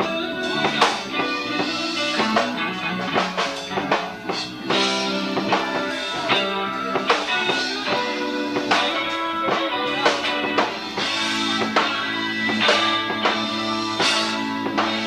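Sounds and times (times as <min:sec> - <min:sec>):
bass guitar: 0:00.0 - 0:15.0
drum kit: 0:00.0 - 0:15.0
guitar: 0:00.0 - 0:15.0.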